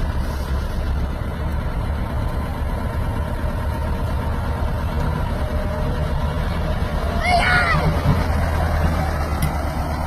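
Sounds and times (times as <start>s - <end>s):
tractor diesel engine rumbling: 0.0s - 10.0s.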